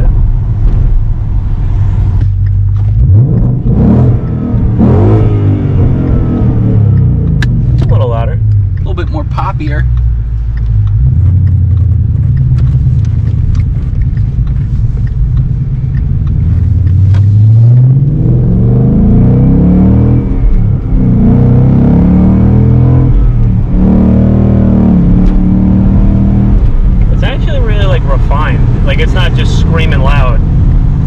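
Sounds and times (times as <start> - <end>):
car engine rumbling and revving: 0.0 - 31.0.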